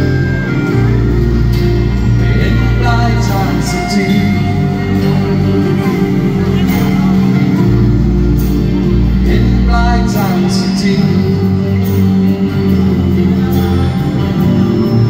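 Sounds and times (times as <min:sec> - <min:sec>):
acoustic guitar: 0:00.0 - 0:15.0
bass line: 0:00.0 - 0:15.0
person singing: 0:00.0 - 0:15.0.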